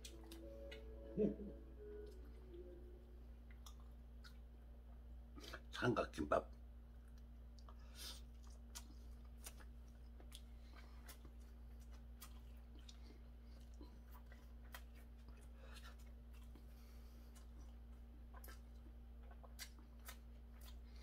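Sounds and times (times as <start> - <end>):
faint chewing with mouth clicks: 0.0 - 0.9, 3.4 - 5.7, 6.5 - 21.0
low steady hum: 0.0 - 21.0.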